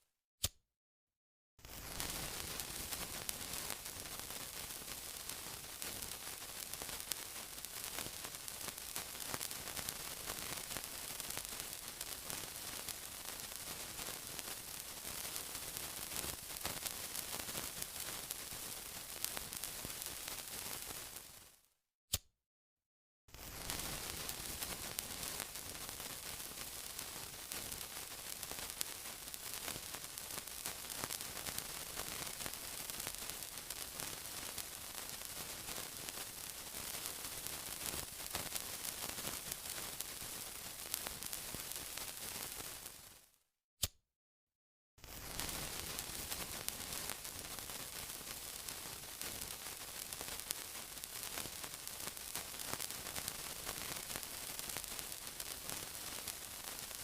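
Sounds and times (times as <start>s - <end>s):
sizzling hiss with crackles: 1.6s - 21.7s, 23.3s - 43.4s, 45.0s - 57.0s.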